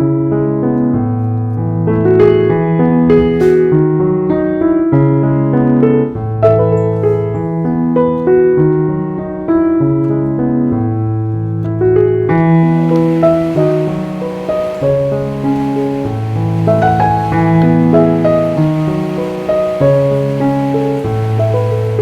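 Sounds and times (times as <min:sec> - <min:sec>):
calm piano music: 0:00.0 - 0:22.0.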